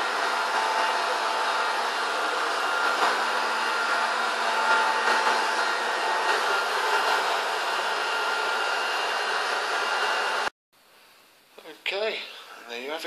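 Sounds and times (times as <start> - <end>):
floor cleaning machine motor whine: 0.0 - 10.5.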